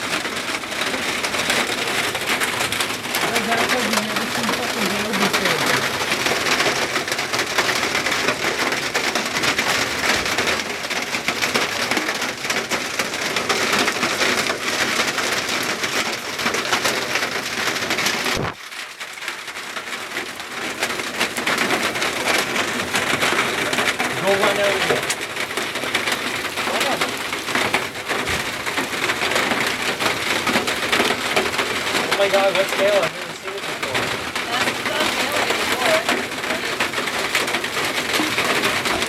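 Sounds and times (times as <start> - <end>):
heavy rain pelting down: 0.0 - 39.0.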